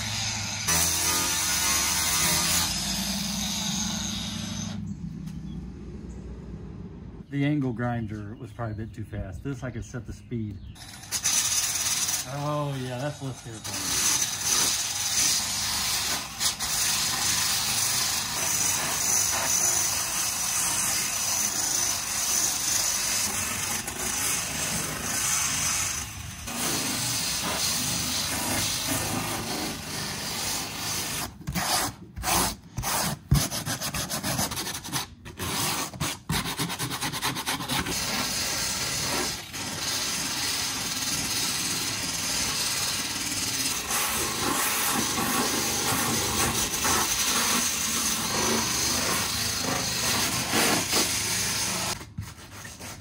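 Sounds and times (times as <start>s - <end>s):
power tool brush scrubbing foam: 0.0s - 4.8s, 10.8s - 53.0s.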